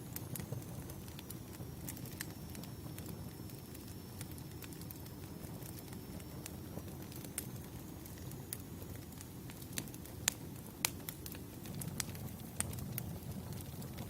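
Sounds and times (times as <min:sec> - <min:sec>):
fire popping and snapping: 0:00.0 - 0:14.0
low rumble of burning logs: 0:00.0 - 0:14.0.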